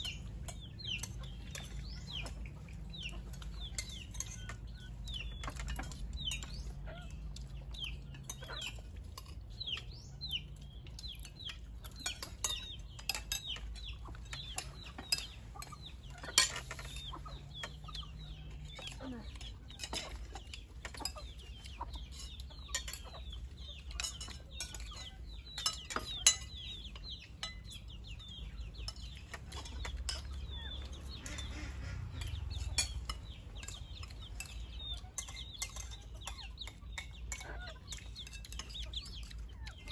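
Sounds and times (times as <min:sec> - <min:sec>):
chickens clucking and peeping: 0:00.0 - 0:39.9
utensils clinking against dishes: 0:00.0 - 0:39.9.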